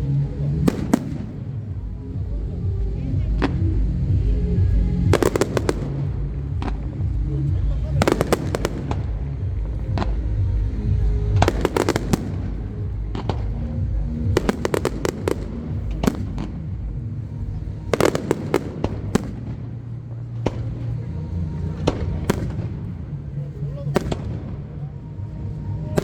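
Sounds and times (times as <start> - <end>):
crowd voices: 0.0 - 26.0
low rumble: 0.0 - 26.0
music: 0.0 - 26.0
firework bangs and crackling: 0.4 - 2.4, 5.0 - 23.2, 23.9 - 24.8.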